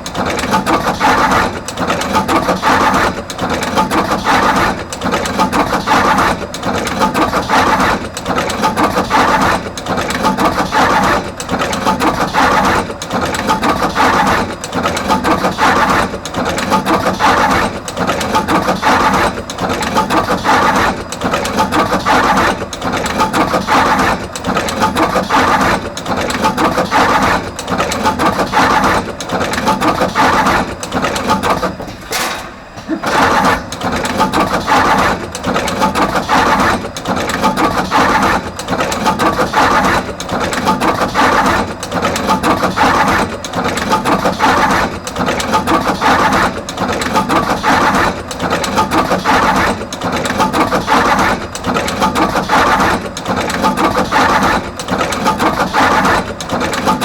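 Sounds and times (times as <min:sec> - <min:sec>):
wire crimping machine running: 0:00.0 - 0:57.0.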